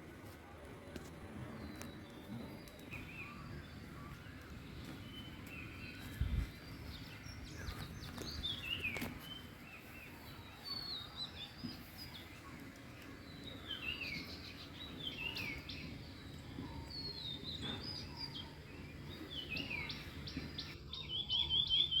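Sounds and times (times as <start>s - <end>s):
low background noise: 0.0s - 22.0s
songbirds chirping: 0.0s - 22.0s.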